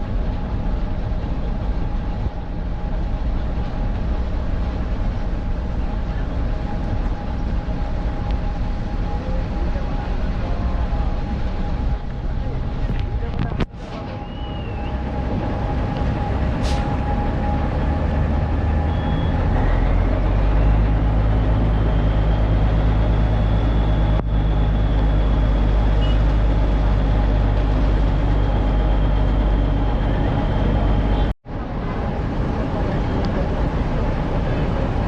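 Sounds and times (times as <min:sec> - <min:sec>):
diesel machinery running under load: 0:00.0 - 0:35.0
engine whine: 0:00.0 - 0:35.0.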